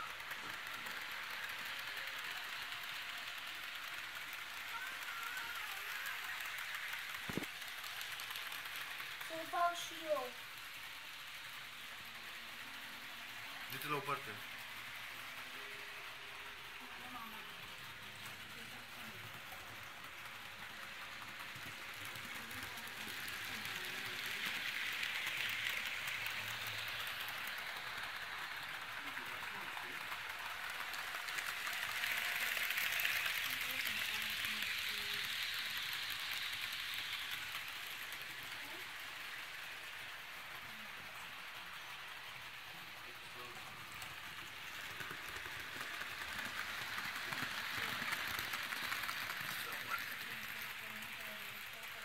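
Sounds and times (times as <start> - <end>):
model train wheels rattling: 0.0 - 52.0.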